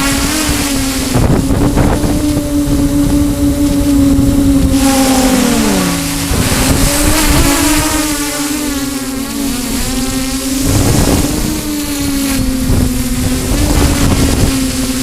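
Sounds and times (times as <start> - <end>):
drone propellers humming: 0.0 - 15.0
wind rumbling on microphone: 0.0 - 15.0.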